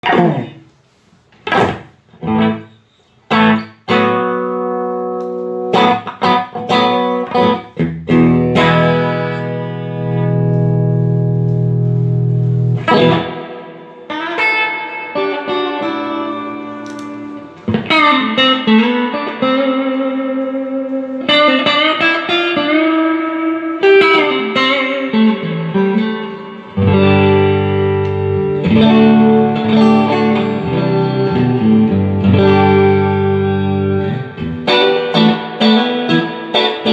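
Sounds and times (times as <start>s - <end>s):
electric guitar chords and notes: 1.4s - 36.9s.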